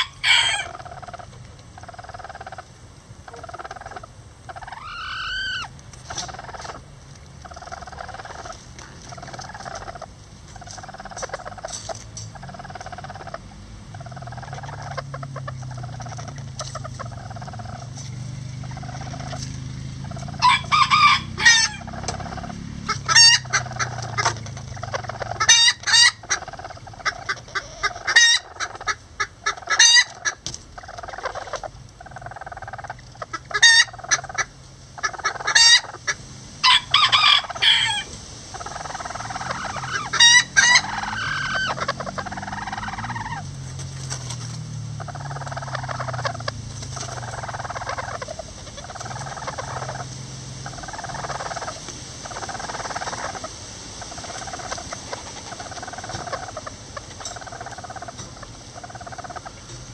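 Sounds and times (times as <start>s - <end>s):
hen clucking: 0.0s - 59.9s
roosters calling loudly: 0.0s - 59.9s.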